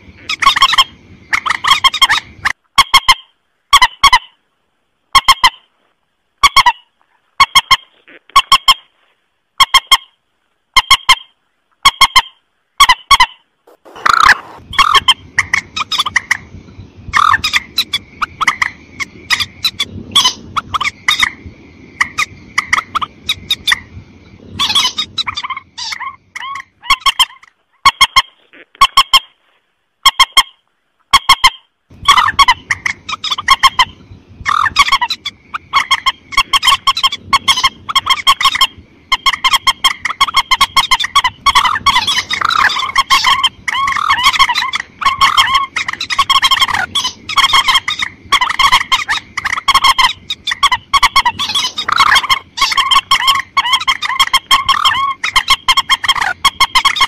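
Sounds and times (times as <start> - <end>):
harsh clucking bird calls: 0.0 - 4.4, 5.1 - 5.7, 6.4 - 8.9, 9.6 - 29.4, 30.0 - 57.0.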